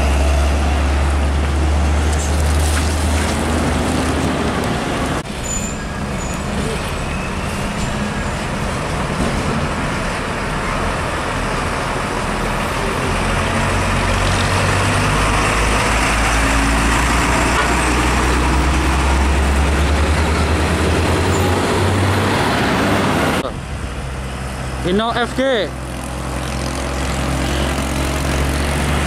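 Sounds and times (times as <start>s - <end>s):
road traffic noise: 0.0s - 29.0s
truck diesel engine under load: 0.0s - 29.0s.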